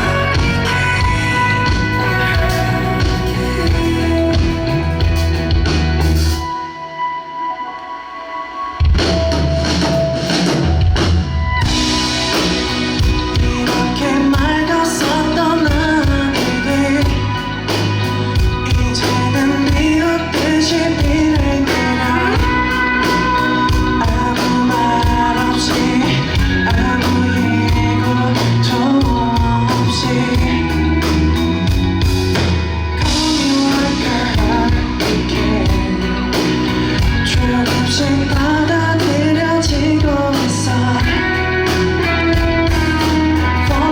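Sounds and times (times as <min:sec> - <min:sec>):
person singing: 0:00.0 - 0:05.6, 0:13.0 - 0:32.0, 0:33.0 - 0:43.9
bass: 0:00.0 - 0:07.1, 0:08.8 - 0:43.9
drum kit: 0:00.0 - 0:07.2, 0:08.6 - 0:43.9
guitars: 0:00.0 - 0:43.9.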